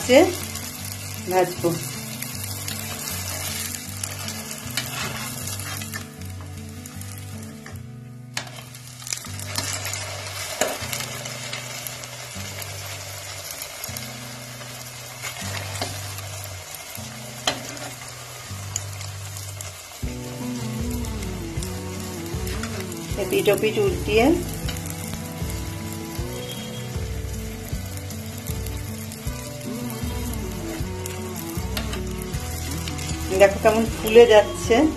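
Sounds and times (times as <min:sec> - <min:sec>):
hot oil sizzling: 0:00.0 - 0:34.9.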